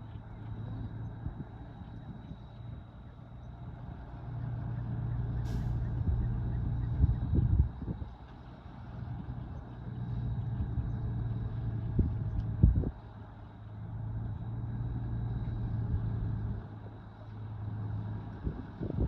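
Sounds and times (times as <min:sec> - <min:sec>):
diesel engine of earthmoving machine: 0:00.0 - 0:19.0.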